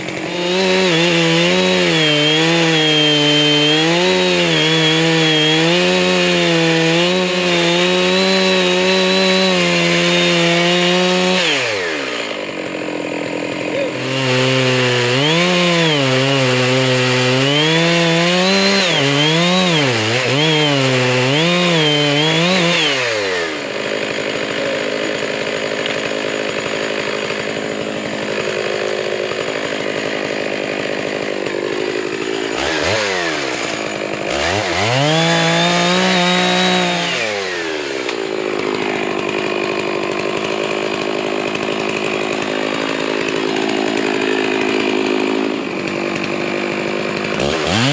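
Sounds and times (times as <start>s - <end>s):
chainsaw revving: 0.0s - 47.9s.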